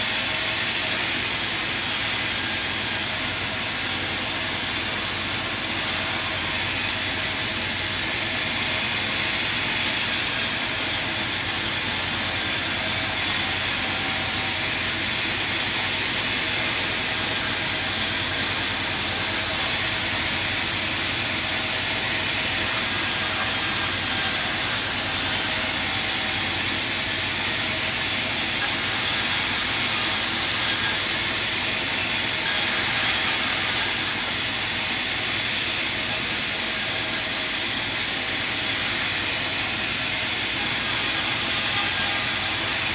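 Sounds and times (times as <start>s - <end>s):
sawmill machine hissing: 0.0s - 42.9s.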